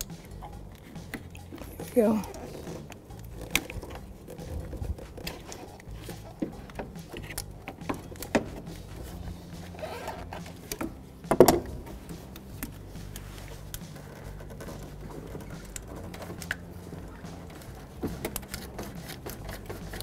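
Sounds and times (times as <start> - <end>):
hand tools clicking and knocking: 0.0 - 20.0.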